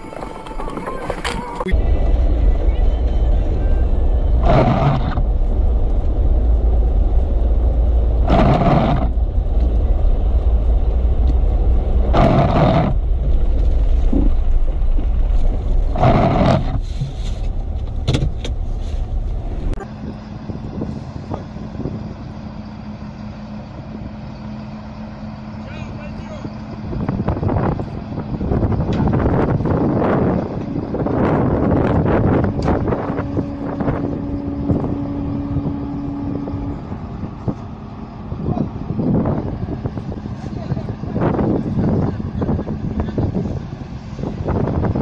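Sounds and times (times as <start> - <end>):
engine and tyre rumble: 0.0 - 45.0.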